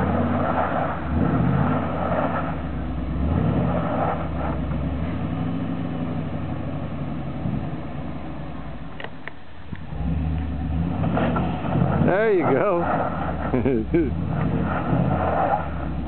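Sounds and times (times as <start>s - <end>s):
truck engine revving: 0.0s - 9.0s, 9.7s - 16.0s.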